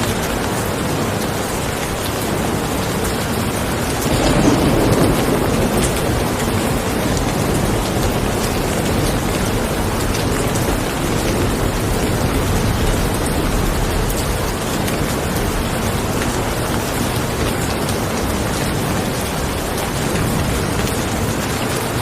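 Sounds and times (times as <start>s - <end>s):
rain hissing: 0.0s - 22.0s
raindrop ticks: 0.0s - 22.0s.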